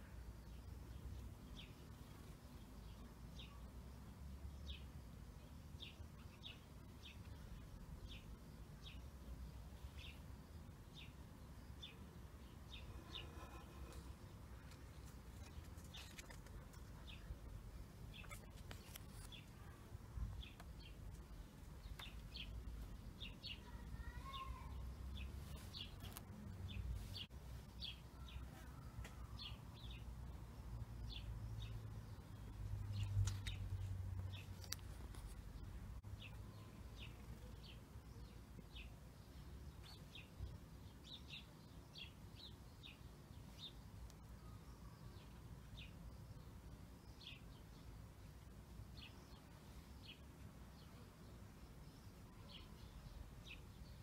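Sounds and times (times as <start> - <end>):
faint bird chirping: 0.0 - 54.0.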